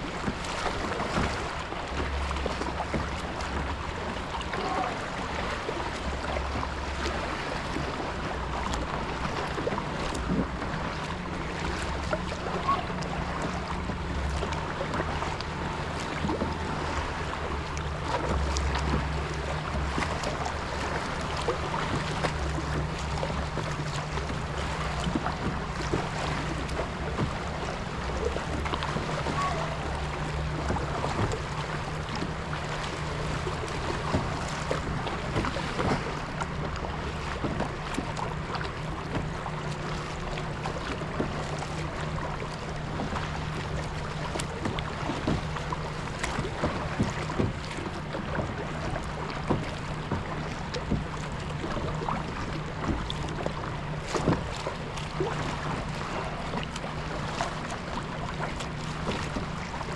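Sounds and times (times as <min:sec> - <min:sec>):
paddle strokes and splashes: 0:00.0 - 0:59.9
steady low drone: 0:00.0 - 0:59.9
water lapping a hull: 0:00.0 - 0:59.9.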